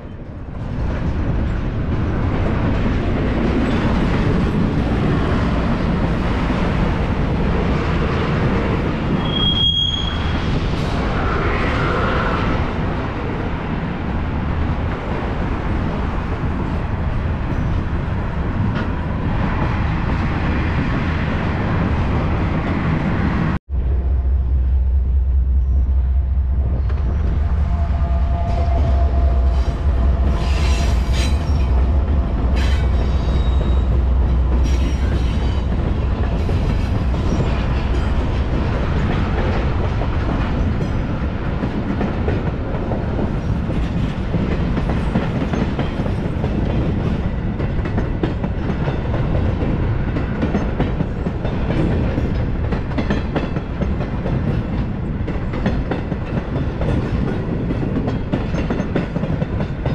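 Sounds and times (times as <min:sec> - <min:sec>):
diesel locomotive engines droning: 0:00.0 - 0:59.9
freight train wheels rumbling on rails: 0:00.0 - 0:59.9.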